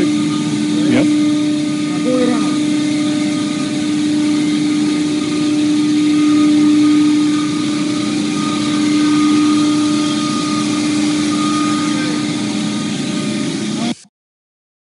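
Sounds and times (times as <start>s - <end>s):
industrial machinery humming: 0.0s - 14.1s.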